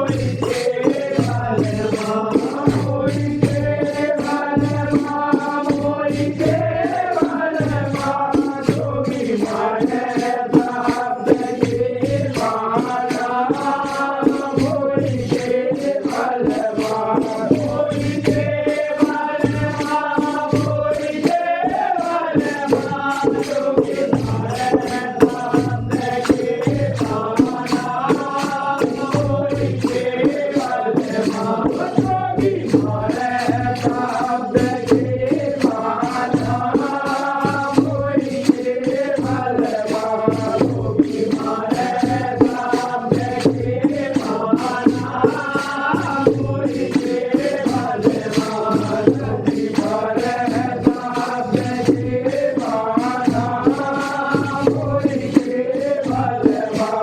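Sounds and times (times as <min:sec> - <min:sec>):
fast percussion beat: 0:00.0 - 0:57.0.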